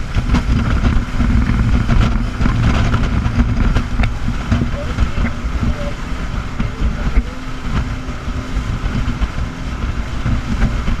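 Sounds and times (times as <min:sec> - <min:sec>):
rush of wind and water: 0:00.0 - 0:11.0
speedboat engines rumbling: 0:00.0 - 0:11.0.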